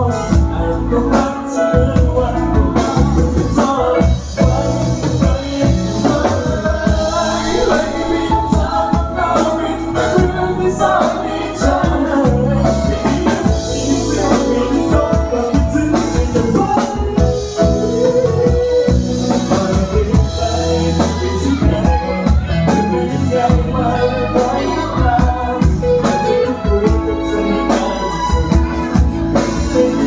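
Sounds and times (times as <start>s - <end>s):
drums: 0.0s - 30.0s
electric guitar: 0.0s - 30.0s
keyboard: 0.0s - 30.0s
man singing into a microphone: 0.0s - 30.0s.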